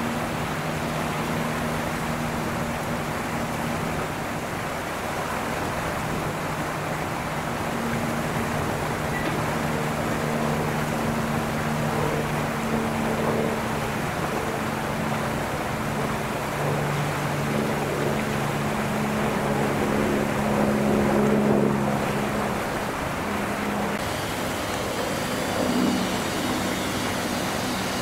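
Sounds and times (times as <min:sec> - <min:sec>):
low mechanical drone: 0:00.0 - 0:28.0
noise wash: 0:00.0 - 0:28.0.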